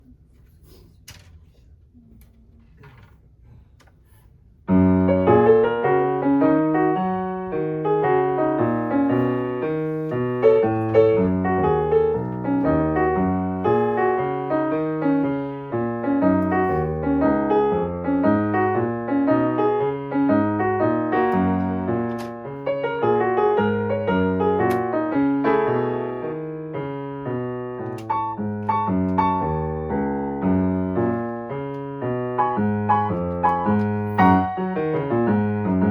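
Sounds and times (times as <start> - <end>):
piano piece: 4.7 - 35.9.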